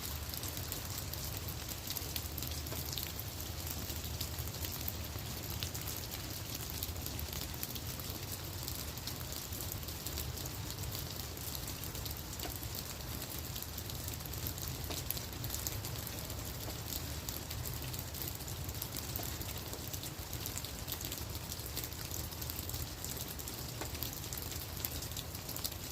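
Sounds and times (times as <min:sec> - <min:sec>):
rain pattering on leaves: 0:00.0 - 0:25.9.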